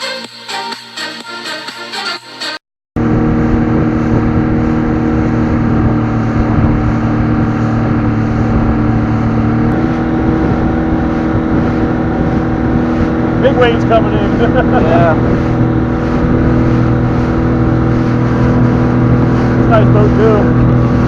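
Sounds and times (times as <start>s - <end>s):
outboard motor running: 3.0s - 21.0s.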